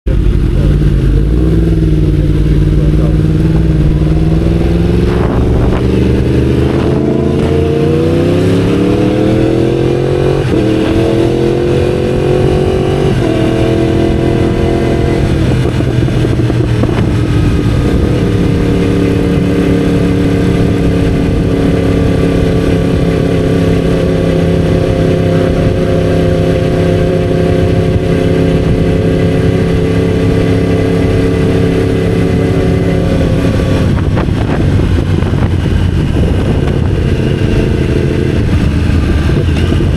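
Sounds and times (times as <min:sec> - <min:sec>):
motorcycle accelerating through gears: 0:00.1 - 0:39.9.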